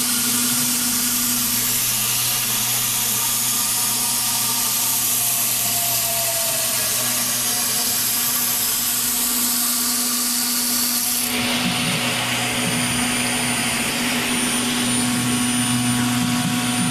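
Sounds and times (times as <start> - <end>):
cnc machine whirring hiss: 0.0 - 16.9
low machine hum: 0.0 - 16.9
thin high whine: 0.0 - 16.9.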